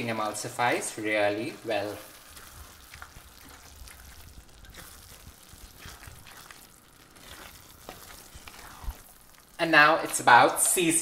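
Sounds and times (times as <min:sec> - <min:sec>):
risotto simmering in a pan: 0:00.0 - 0:11.0
spatula stirring rice: 0:00.2 - 0:10.7.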